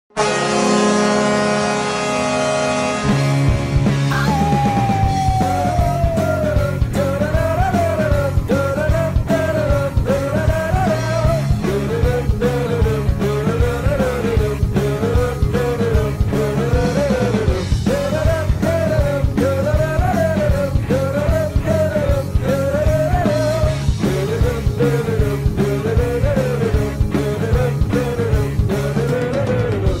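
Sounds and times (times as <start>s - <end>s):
rock music with drum beat: 2.1s - 30.0s.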